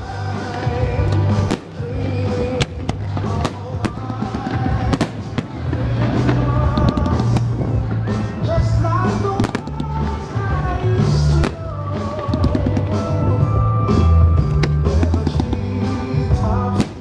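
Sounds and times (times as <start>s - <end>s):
fireworks bangs and crackles: 0.0s - 17.0s
pop music with heavy bass beat: 0.0s - 17.0s.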